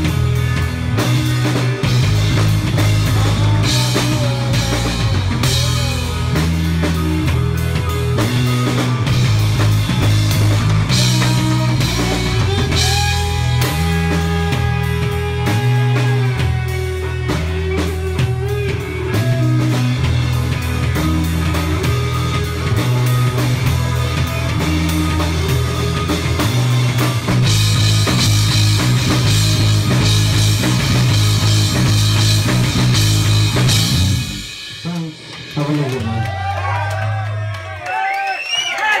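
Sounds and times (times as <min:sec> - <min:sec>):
rock band playing: 0:00.0 - 0:39.0.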